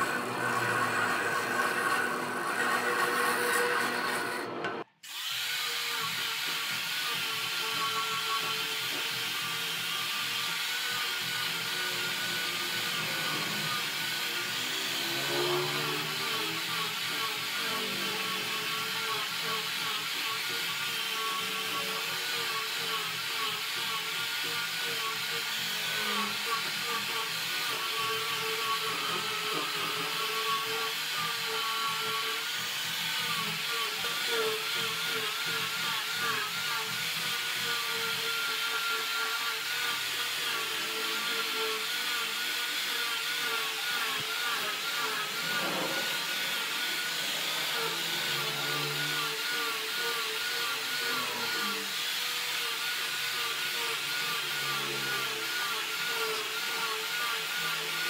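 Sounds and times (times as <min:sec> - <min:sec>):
angle grinder sanding wood: 0:00.0 - 0:58.0.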